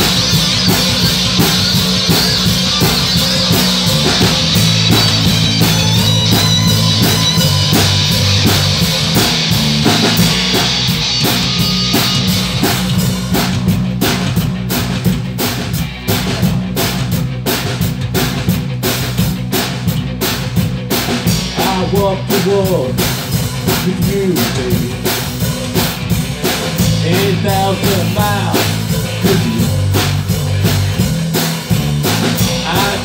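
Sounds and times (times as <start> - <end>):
drum kit beat: 0.0 - 33.0
electric guitars: 0.0 - 33.0.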